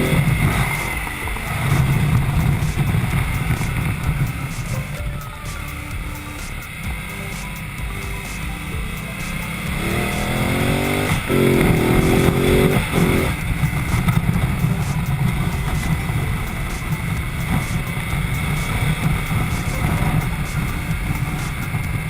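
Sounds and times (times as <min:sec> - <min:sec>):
motorcycle engine accelerating: 0:00.0 - 0:22.0
rushing noise: 0:00.0 - 0:22.0.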